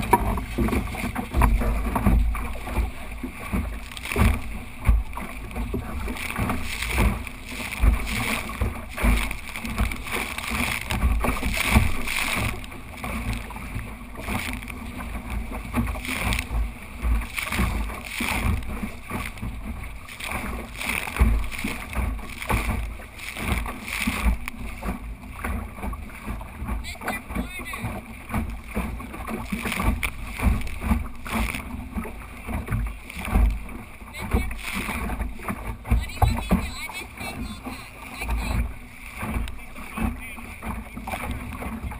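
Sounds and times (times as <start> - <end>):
water splashing along hull: 0.0 - 41.9.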